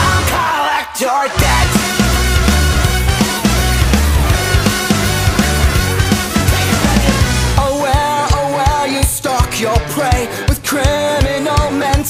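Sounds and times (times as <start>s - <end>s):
rock song: 0.0s - 12.0s.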